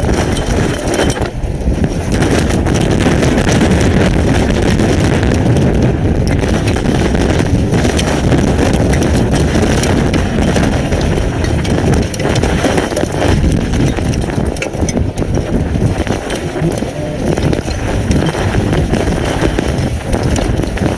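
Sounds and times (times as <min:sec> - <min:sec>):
hail and rain striking camera: 0:00.0 - 0:20.9
wind buffeting microphone: 0:00.0 - 0:20.9.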